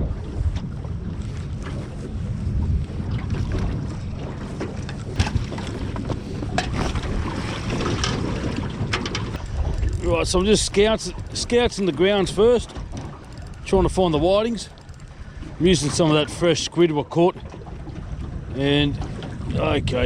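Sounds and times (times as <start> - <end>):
water sloshing: 0.0 - 19.5
wind rumbling on microphone: 0.0 - 20.0.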